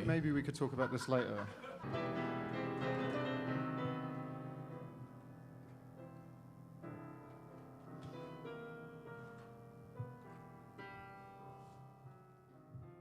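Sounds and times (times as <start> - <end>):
quiet piano chords: 0.0 - 13.0.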